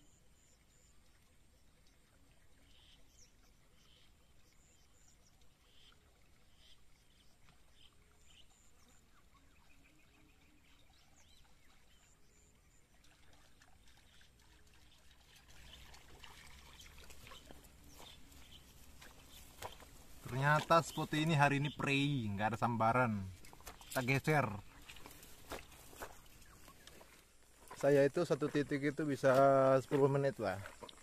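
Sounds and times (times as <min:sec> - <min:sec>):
water trickling: 0:00.0 - 0:31.0.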